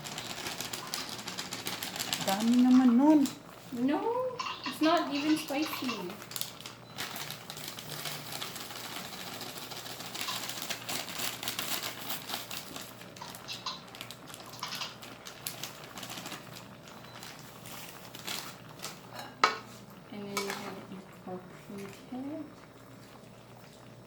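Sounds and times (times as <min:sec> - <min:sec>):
food crackling in a pan: 0:00.0 - 0:24.0.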